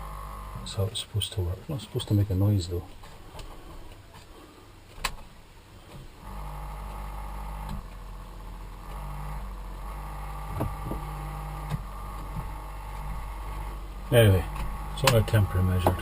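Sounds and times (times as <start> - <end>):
small fan humming and whining: 0.0 - 16.0.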